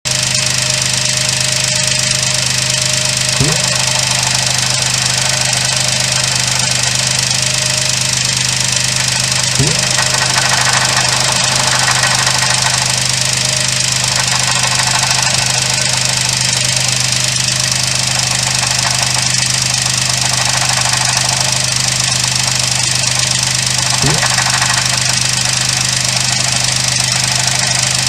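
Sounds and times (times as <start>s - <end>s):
car engine running: 0.1s - 28.0s
alternator noise: 0.4s - 28.0s.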